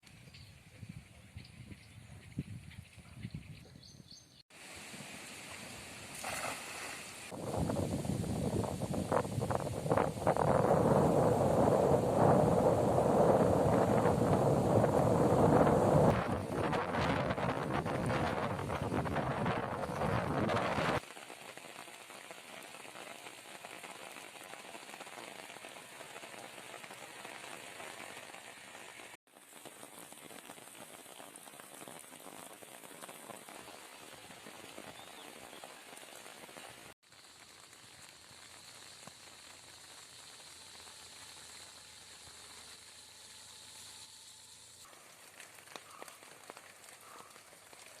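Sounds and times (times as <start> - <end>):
heavy rain falling: 7.1 - 43.5, 45.0 - 48.0.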